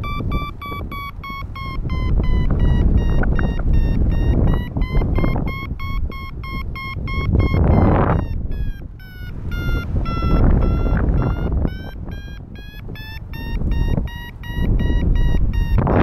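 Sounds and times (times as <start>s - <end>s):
short electronic beeps: 0.0s - 16.0s
wind on microphone: 0.0s - 16.0s.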